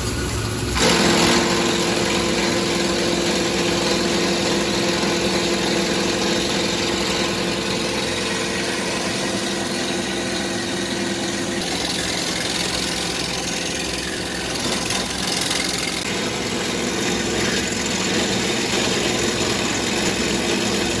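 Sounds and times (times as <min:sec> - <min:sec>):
grinder shredding wood: 0:00.0 - 0:21.0.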